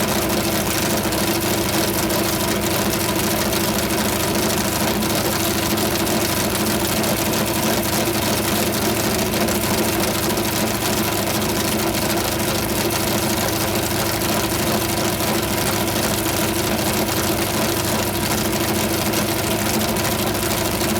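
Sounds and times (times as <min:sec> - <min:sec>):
racing engine idling: 0:00.0 - 0:20.9.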